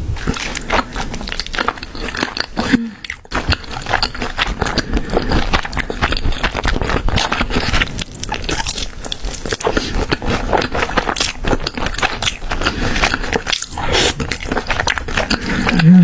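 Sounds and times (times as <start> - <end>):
crunchy bites and chewing: 0.0 - 16.0.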